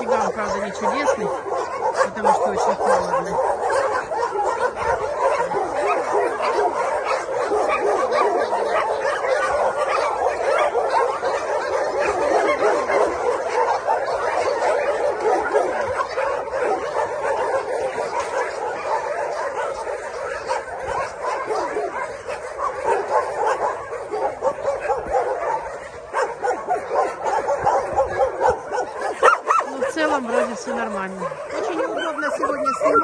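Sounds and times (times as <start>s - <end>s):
many dogs barking: 0.0s - 33.0s.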